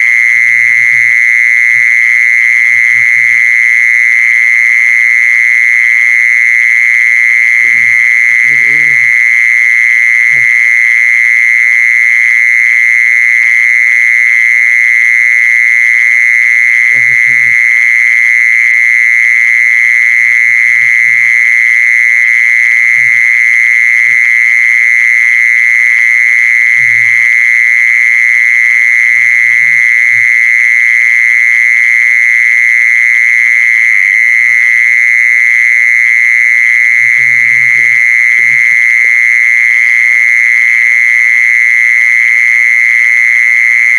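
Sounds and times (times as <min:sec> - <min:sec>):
insect high-pitched trill: 0:00.0 - 0:43.9.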